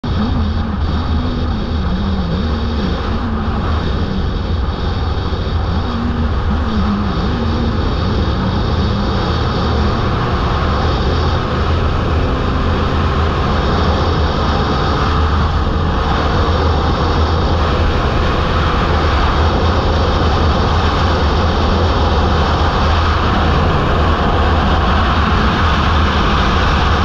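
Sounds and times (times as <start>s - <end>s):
motorcycle engine running: 0.0s - 27.0s
wind rush on microphone: 0.0s - 27.0s.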